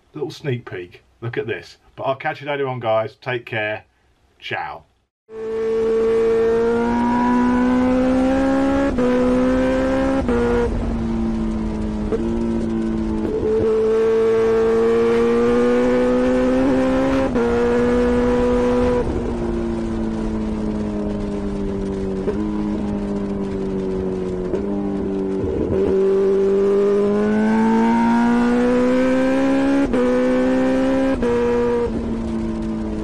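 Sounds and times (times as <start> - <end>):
motorcycle engine accelerating: 5.3 - 33.0.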